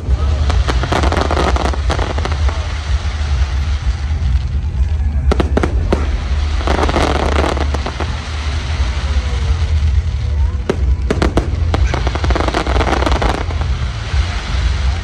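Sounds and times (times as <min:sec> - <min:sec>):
firework crackling: 0:00.0 - 0:15.0
low rumble: 0:00.0 - 0:15.0.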